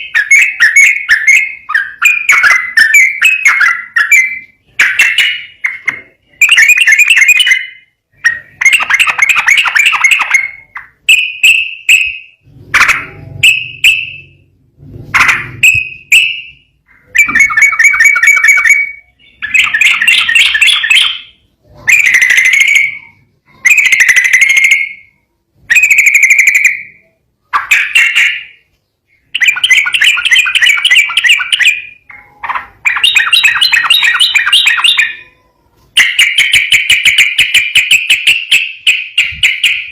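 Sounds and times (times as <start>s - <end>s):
bird singing chattering notes: 0.0s - 14.5s, 15.2s - 35.4s, 36.0s - 39.9s.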